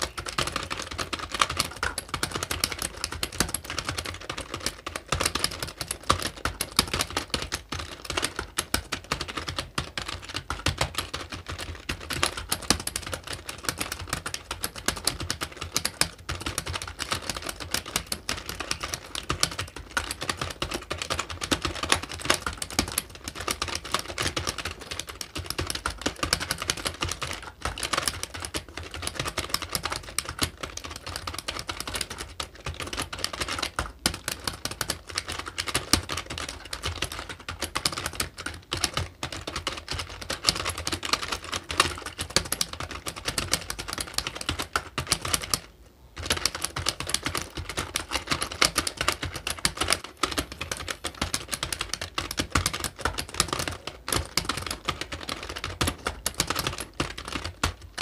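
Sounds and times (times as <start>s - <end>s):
fast keyboard typing: 0.0s - 58.0s.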